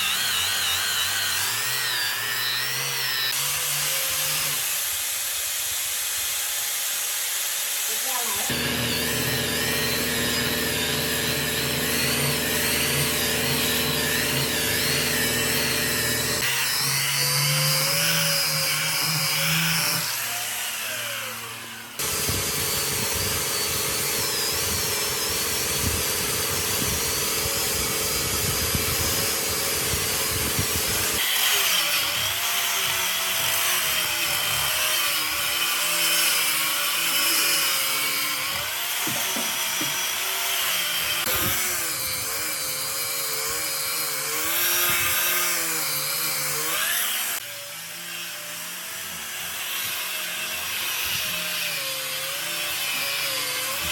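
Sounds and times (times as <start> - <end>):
electric power tools working wood: 0.0 - 53.9.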